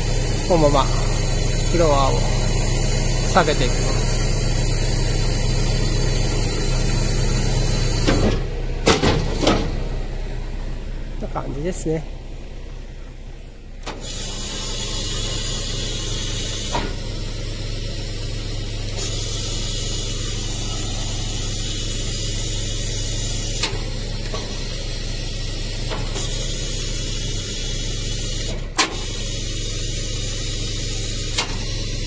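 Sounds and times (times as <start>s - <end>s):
hydraulic hiss: 0.0s - 8.5s, 13.8s - 32.0s
low hum: 0.0s - 28.0s.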